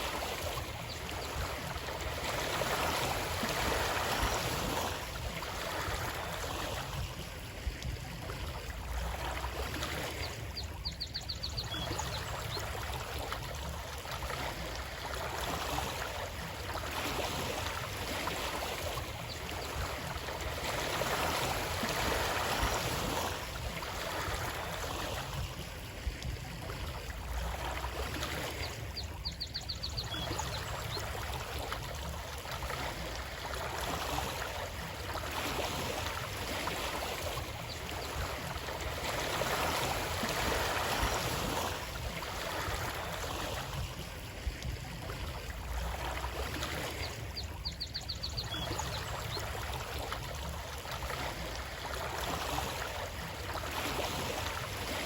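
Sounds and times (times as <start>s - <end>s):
running water flowing: 0.0s - 55.0s.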